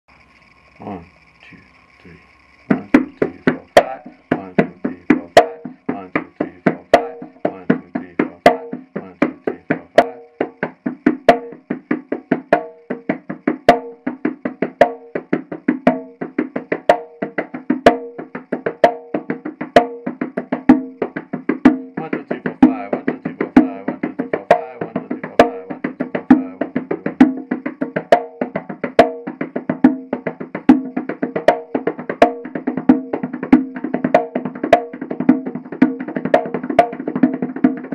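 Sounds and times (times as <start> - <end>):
conga drum hand strokes: 2.7 - 37.9.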